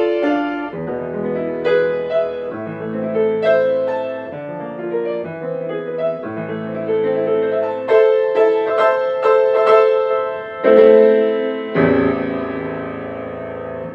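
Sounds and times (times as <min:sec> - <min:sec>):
solo piano playing: 0:00.0 - 0:13.9.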